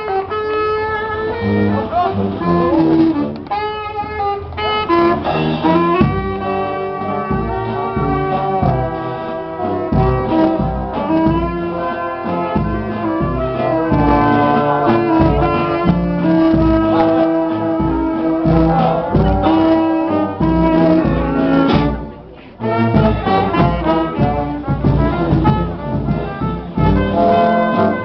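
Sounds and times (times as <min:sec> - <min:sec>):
brass band playing: 0:00.0 - 0:28.0
bass drum beat: 0:04.8 - 0:28.0.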